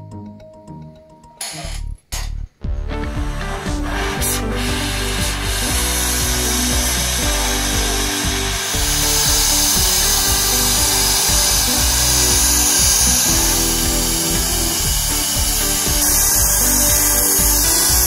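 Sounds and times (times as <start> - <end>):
music with steady beat: 0.0 - 18.0
gas torch flame hissing: 3.5 - 18.0.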